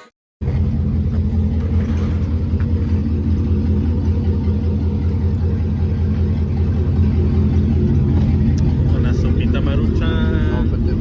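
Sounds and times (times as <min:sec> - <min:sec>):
truck engine deep rumble: 0:00.4 - 0:11.0.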